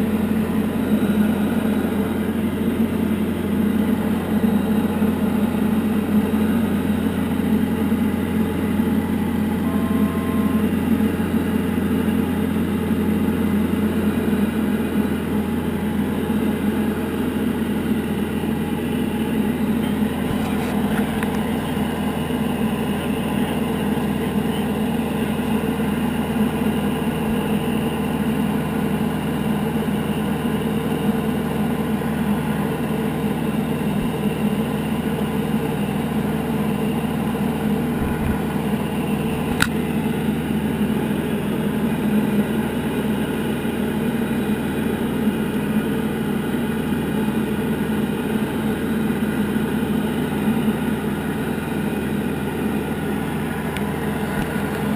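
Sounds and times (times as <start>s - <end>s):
aircraft engine droning: 0.0s - 54.9s.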